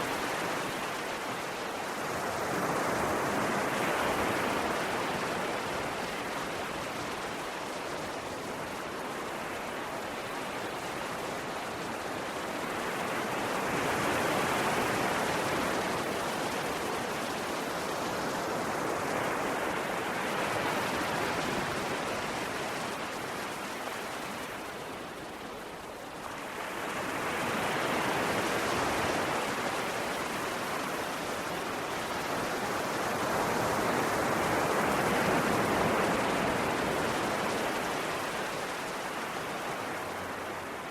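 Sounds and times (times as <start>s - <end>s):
ocean surf washing onto shore: 0.0s - 40.9s.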